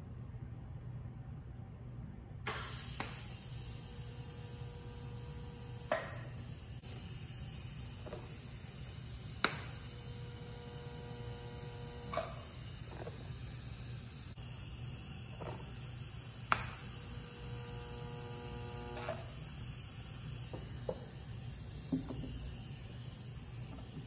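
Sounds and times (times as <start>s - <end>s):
faint electrical hum: 0.0s - 24.0s
welding arc hissing: 2.5s - 24.0s.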